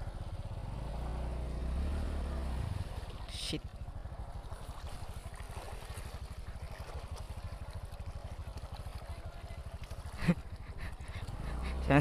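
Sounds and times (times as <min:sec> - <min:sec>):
water sloshing and splashing: 0:00.1 - 0:12.0.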